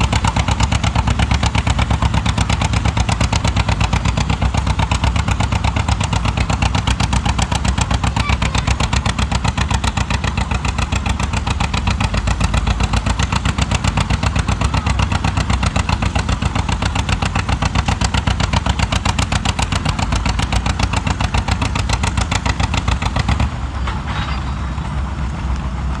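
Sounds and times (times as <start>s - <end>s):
tractor engine running hard: 0.0s - 26.0s.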